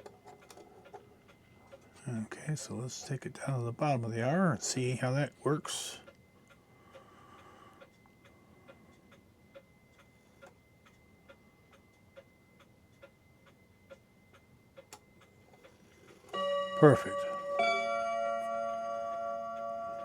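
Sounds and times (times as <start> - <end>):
clock ticking: 0.0 - 15.8, 16.4 - 20.0.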